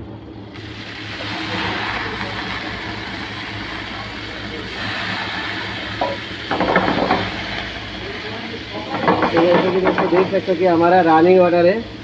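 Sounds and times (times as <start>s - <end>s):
fish sizzling in oil: 0.5s - 12.0s.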